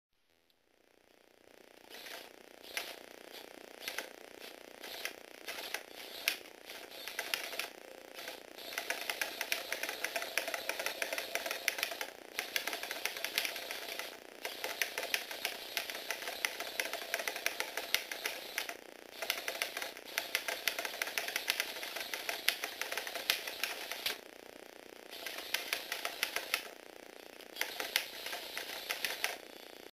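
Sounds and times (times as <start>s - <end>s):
electric motor whirring: 1.8s - 24.2s, 25.1s - 26.8s, 27.4s - 29.9s.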